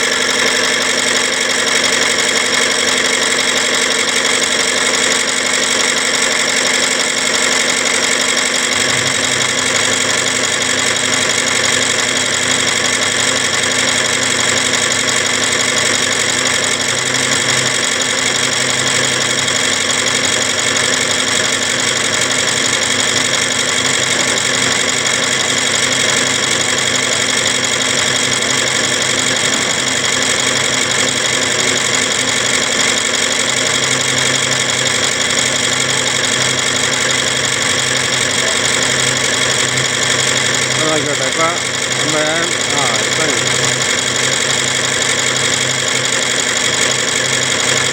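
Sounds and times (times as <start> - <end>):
machinery running: 0.0 - 47.9.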